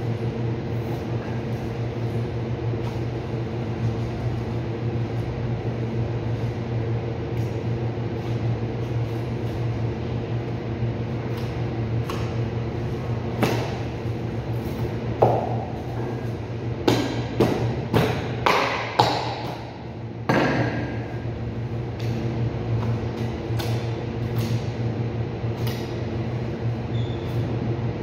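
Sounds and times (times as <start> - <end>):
refrigeration unit humming: 0.0 - 28.0.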